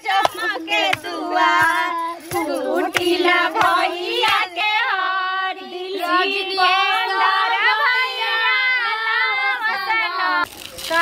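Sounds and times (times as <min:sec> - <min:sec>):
women singing folk song: 0:00.0 - 0:10.5.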